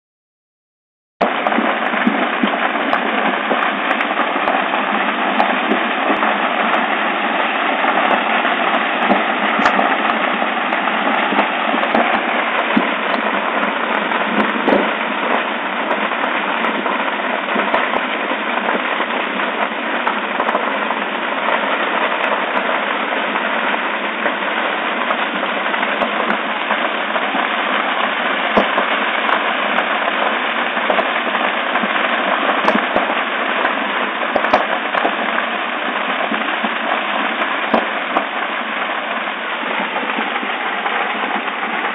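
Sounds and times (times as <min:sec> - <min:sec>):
burning timber crackling: 0:01.2 - 0:41.9
flames rushing: 0:01.2 - 0:41.9.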